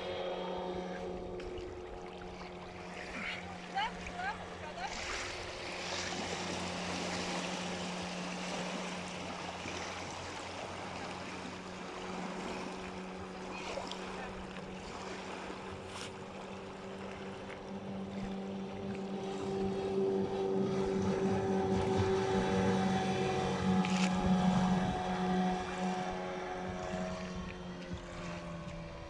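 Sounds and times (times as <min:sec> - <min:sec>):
outboard motor running: 0:00.0 - 0:29.0
water noise: 0:00.0 - 0:29.0.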